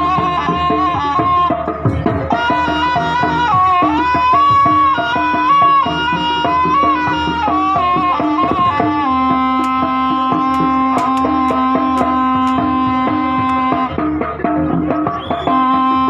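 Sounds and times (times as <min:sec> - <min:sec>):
hand drum strokes: 0:00.0 - 0:16.0.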